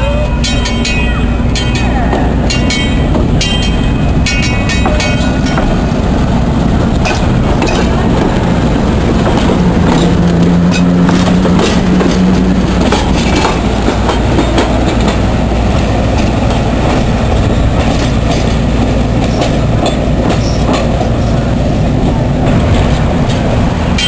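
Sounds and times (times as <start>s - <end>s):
wheels clicking over rail joints: 0.0s - 21.3s
streetcar rumble and hum: 0.0s - 24.0s.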